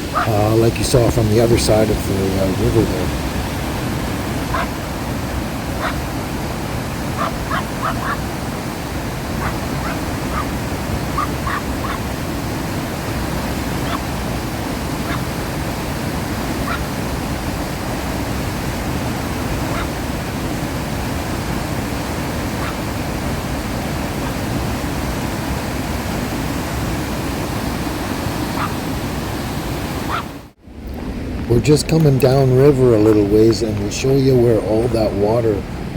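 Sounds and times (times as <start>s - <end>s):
waterfall rushing over rocks: 0.0s - 30.6s.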